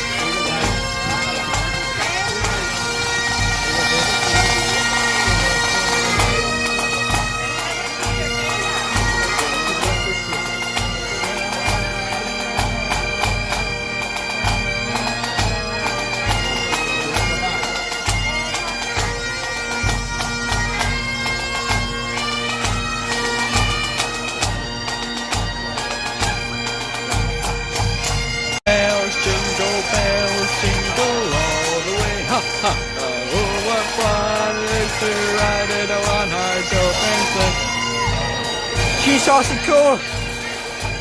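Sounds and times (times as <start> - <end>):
bagpipes playing a tune: 0.0 - 41.0
drum beating: 0.0 - 41.0.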